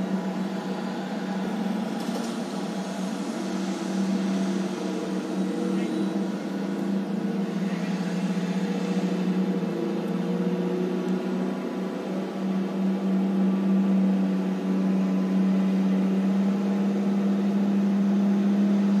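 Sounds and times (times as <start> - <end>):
heavy diesel machinery drone: 0.0 - 19.0.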